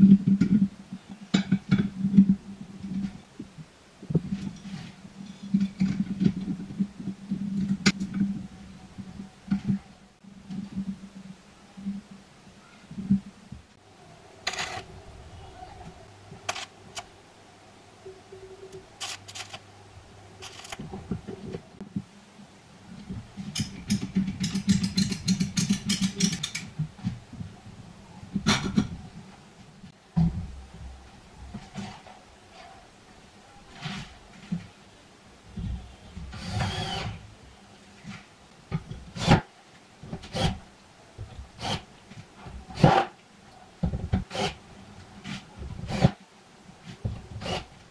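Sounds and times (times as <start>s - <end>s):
faint low hum: 0.0s - 47.9s.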